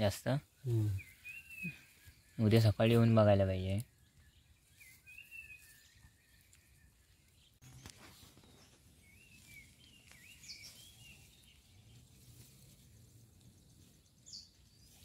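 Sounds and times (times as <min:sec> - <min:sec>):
faint bird chirps: 0:00.4 - 0:15.0.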